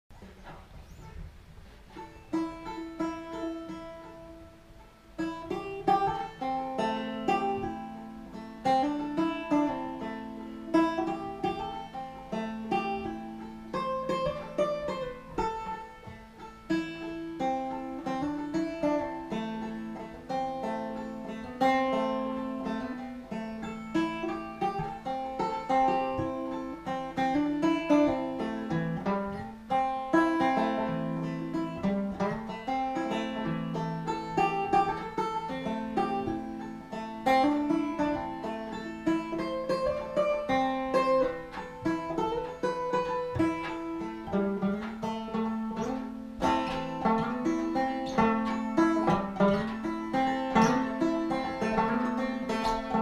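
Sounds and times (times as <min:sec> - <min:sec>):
fingerpicked banjo: 0:00.1 - 0:53.0.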